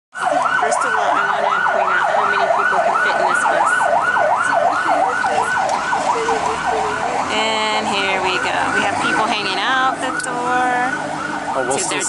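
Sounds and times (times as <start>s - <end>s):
siren yelping: 0.1s - 12.0s.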